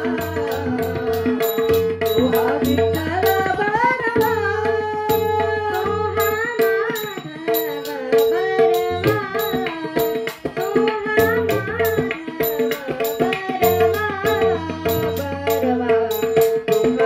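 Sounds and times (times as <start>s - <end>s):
girl singing devotional song: 0.0s - 17.0s
tabla drumming: 0.0s - 17.0s.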